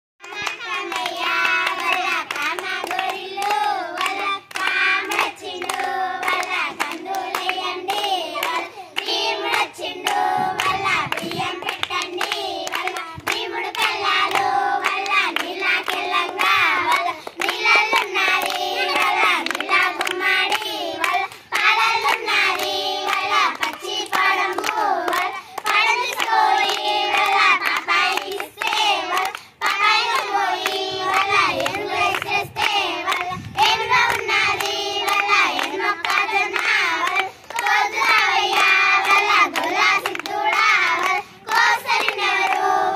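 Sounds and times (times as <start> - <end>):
hands clapping: 0.2 - 42.7
girls singing together: 0.2 - 42.9.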